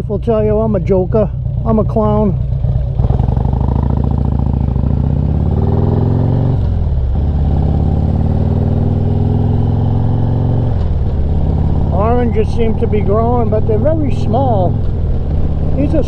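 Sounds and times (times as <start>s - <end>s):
motorcycle engine accelerating: 0.5s - 16.0s.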